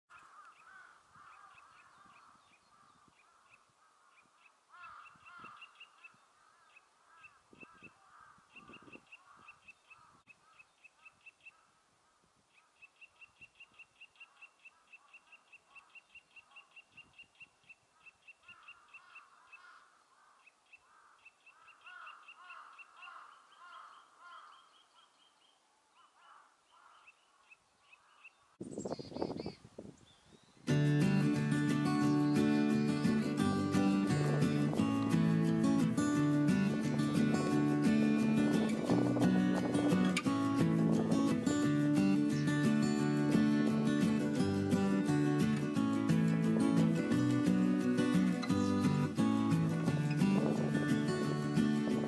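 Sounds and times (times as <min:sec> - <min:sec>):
other birds calling: 0:00.1 - 0:52.0.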